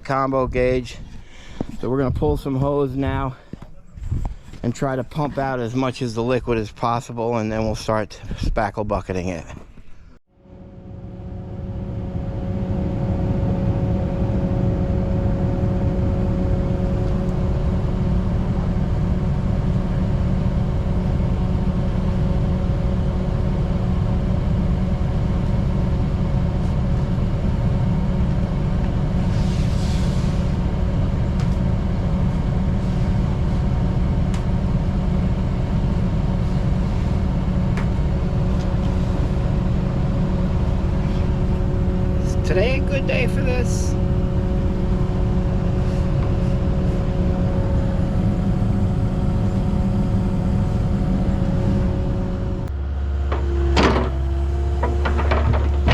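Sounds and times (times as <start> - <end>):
pump engine droning: 10.3 - 55.9.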